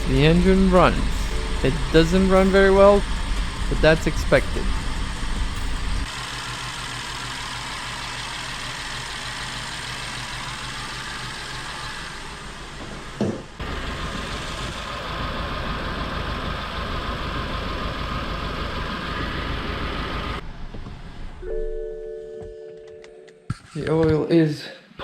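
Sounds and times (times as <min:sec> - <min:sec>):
car engine idling unevenly: 0:00.0 - 0:21.4.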